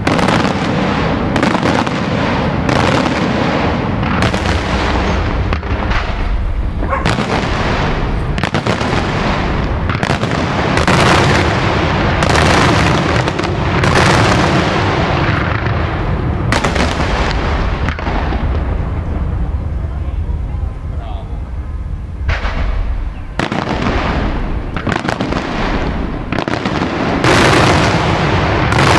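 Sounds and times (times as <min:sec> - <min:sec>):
fireworks bursting: 0:00.0 - 0:28.9
sharp firework reports: 0:00.0 - 0:28.9.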